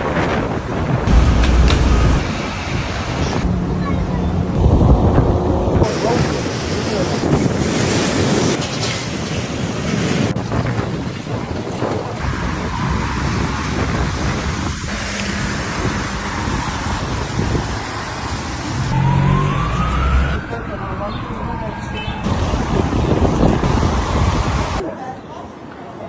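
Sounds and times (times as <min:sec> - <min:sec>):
dense storm rush: 0:00.0 - 0:24.8
wind buffeting microphone: 0:00.0 - 0:24.8.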